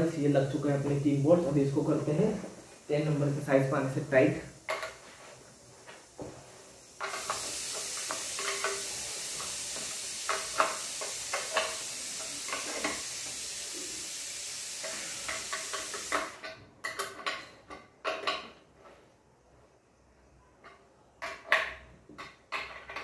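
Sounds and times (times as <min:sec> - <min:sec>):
steady hiss: 0:00.0 - 0:20.4.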